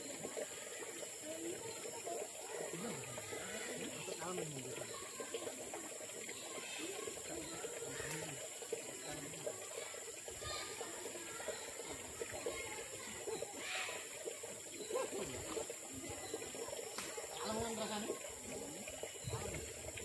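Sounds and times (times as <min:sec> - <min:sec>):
people chattering: 0:00.0 - 0:20.0
river water trickling: 0:00.0 - 0:20.0.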